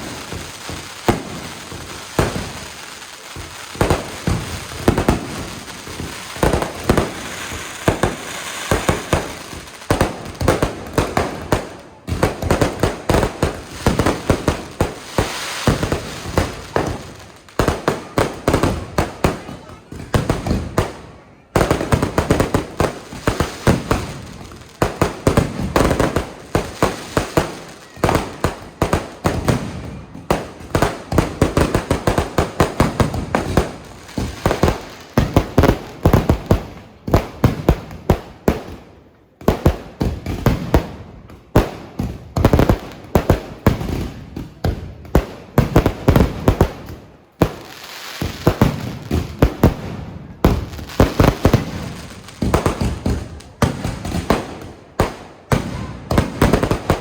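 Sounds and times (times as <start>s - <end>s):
fireworks bangs and cracks: 0.0s - 57.0s.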